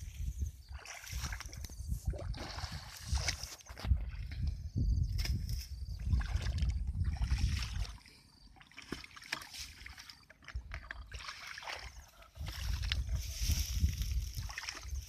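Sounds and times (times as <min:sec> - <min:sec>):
water sloshing and splashing: 0:00.6 - 0:15.0.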